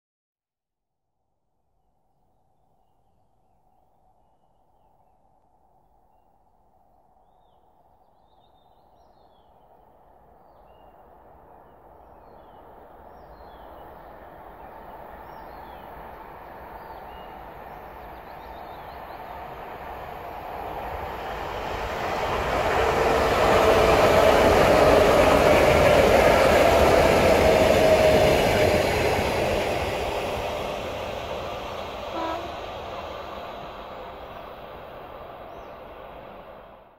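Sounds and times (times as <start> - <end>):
electric train passing at speed: 3.6 - 36.9.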